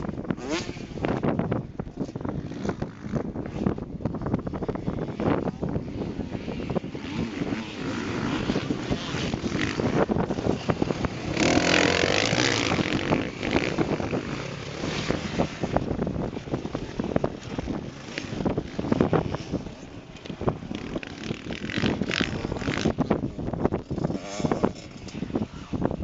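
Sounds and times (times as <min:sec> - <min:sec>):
motocross bike engines: 0:00.0 - 0:26.0
motorbike passing close revving: 0:00.3 - 0:01.4, 0:04.6 - 0:25.7.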